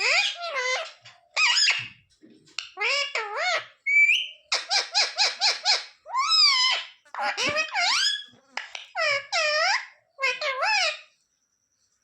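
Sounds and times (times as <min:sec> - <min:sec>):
parrot squawking and whistling: 0:00.0 - 0:02.0, 0:02.7 - 0:11.0.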